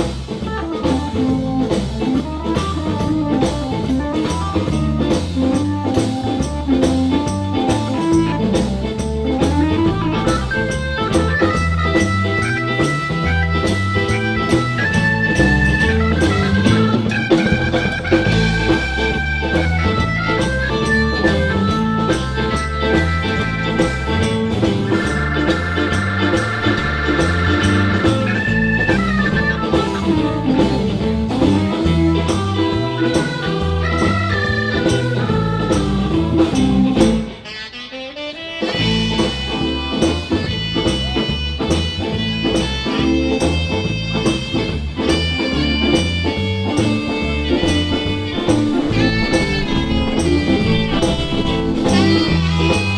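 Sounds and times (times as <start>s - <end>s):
drums: 0.0s - 52.9s
electric guitar: 0.0s - 52.9s
organ: 0.0s - 52.9s.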